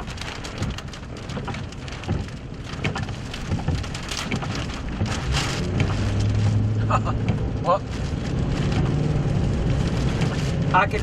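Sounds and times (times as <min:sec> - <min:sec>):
heavy rain on a vehicle: 0:00.0 - 0:11.0.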